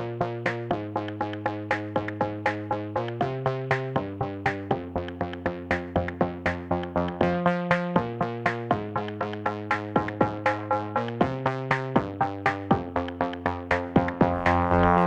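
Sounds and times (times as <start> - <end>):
electronic music with quick beat: 0.0 - 15.0.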